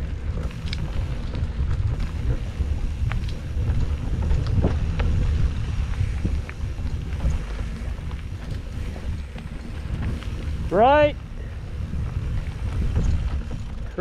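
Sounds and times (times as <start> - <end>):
bike clicks and rattles: 0.0 - 14.0
tyres rumbling on dirt: 0.0 - 14.0
wind buffeting microphone: 0.0 - 14.0.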